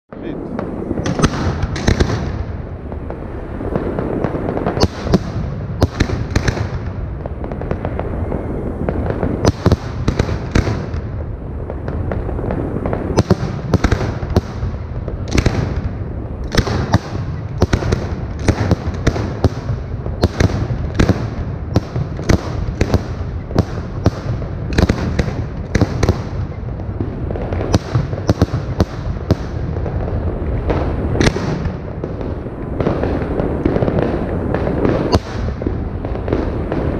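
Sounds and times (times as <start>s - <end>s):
continuous low rumble: 0.1s - 36.9s
firework shells bursting: 0.6s - 36.9s.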